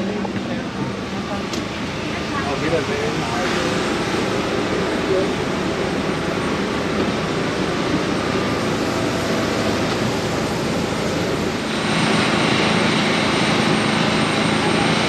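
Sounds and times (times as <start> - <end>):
jet engine and airflow in cabin: 0.0 - 15.0.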